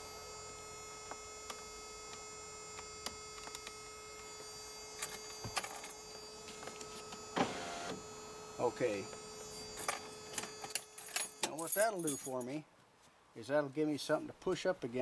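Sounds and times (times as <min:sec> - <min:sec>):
electrical hum: 0:00.0 - 0:12.2.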